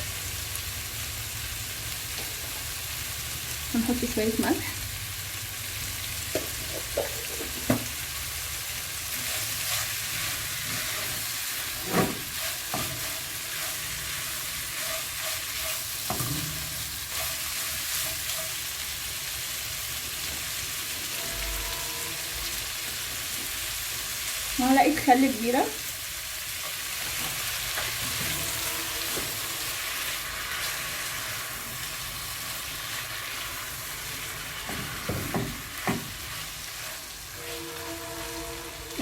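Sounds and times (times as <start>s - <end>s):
shrimp sizzling in a frying pan: 0.0s - 39.0s.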